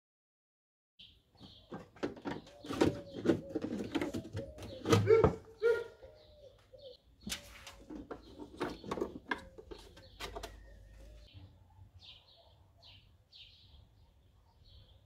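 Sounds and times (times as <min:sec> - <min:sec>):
bird chirping: 0:01.0 - 0:15.0.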